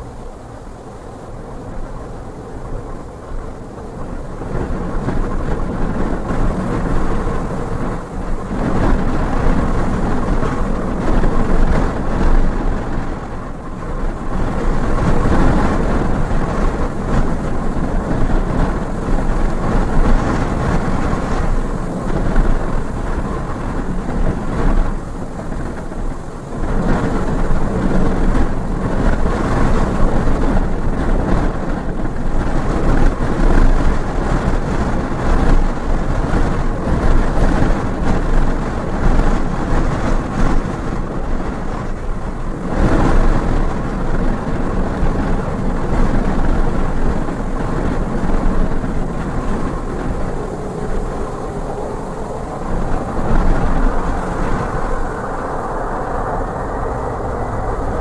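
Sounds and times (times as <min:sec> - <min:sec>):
gusty wind buffeting microphone: 0:00.0 - 0:58.0.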